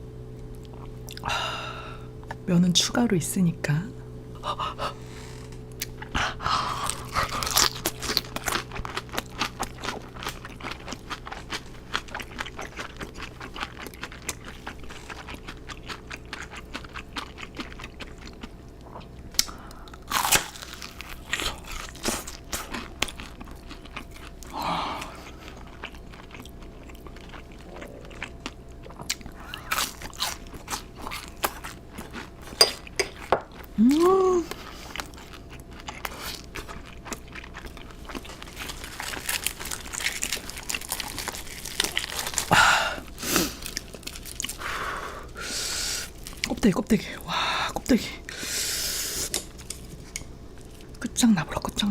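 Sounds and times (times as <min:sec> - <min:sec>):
crunching and chewing fried chicken: 0:04.4 - 0:51.0.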